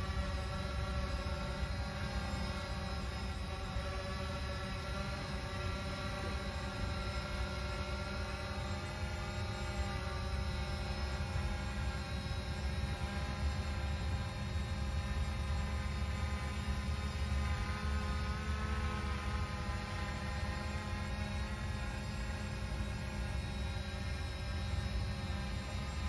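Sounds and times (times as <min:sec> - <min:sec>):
drone propeller whine: 0:00.0 - 0:26.0.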